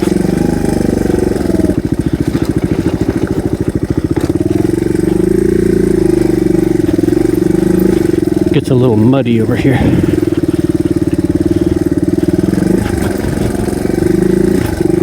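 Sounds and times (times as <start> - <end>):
motorcycle engine chugging: 0.0 - 15.0.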